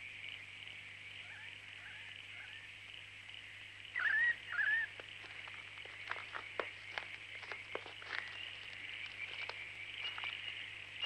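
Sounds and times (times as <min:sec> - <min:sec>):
bird calls: 0:00.0 - 0:11.0
steady high-pitched hiss: 0:00.0 - 0:11.0.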